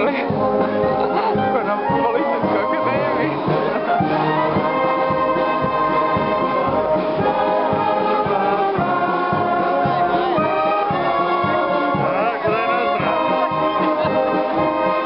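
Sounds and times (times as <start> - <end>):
wind band playing slow piece: 0.0 - 15.0.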